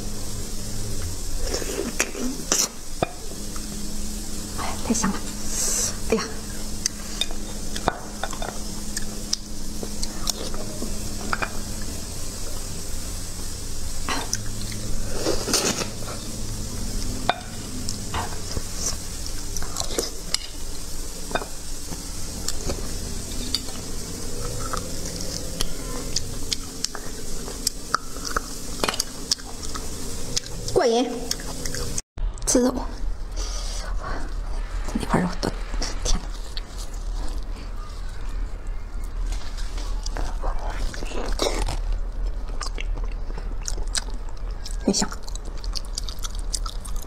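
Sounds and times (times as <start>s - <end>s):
steady high hiss: 0.0s - 47.0s.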